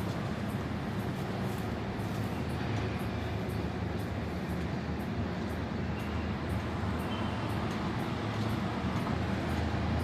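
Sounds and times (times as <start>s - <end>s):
diesel locomotive engine drone: 0.0s - 10.0s.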